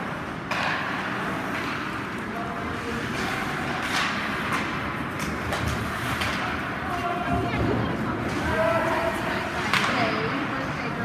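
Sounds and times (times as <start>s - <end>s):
hockey sticks and puck clacking: 0.0s - 11.0s
skates scraping on ice: 0.0s - 11.0s.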